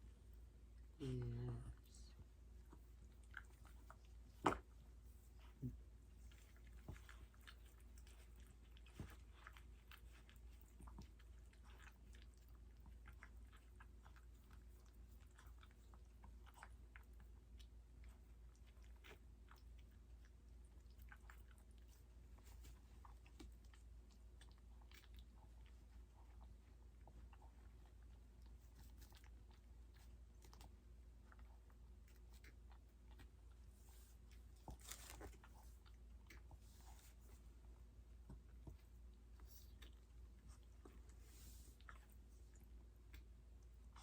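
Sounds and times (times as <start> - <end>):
dog licking and chewing: 2.5 - 44.0.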